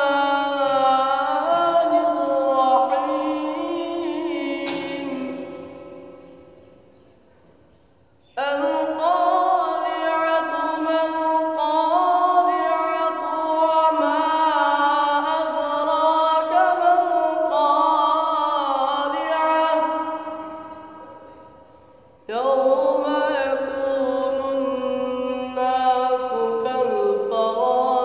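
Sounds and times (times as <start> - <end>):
boy reciting melodically: 0.0 - 6.4, 8.3 - 21.3, 22.2 - 28.0.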